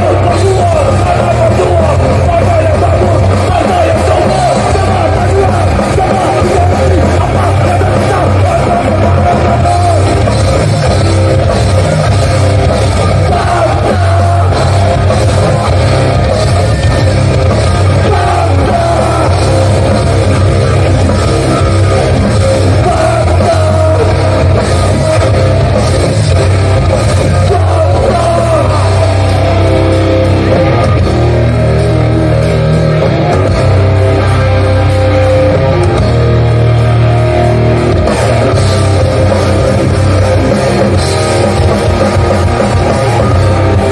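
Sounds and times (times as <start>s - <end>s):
hardcore band playing live: 0.0s - 43.9s.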